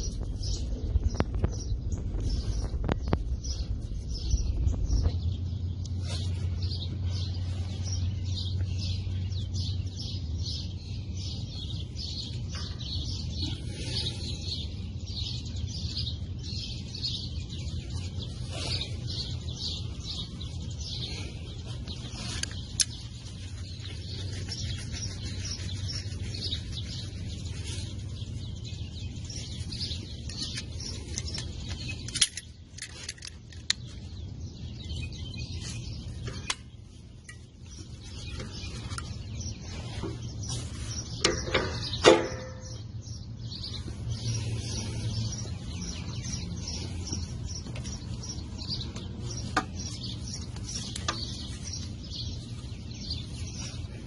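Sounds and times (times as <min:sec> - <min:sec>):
birds chirping: 0:00.0 - 0:54.0
steady low hum: 0:00.0 - 0:54.0.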